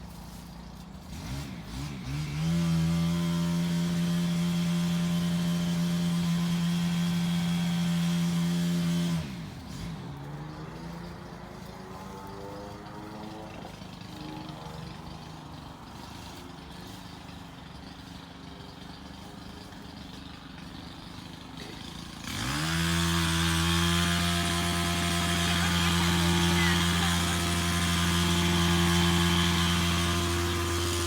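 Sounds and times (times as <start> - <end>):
small petrol engine revving: 0.0 - 31.0.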